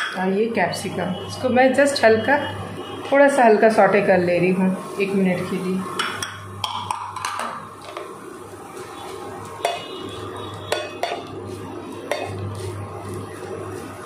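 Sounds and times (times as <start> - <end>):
vegetables sauteing in oil: 0.1 - 14.0.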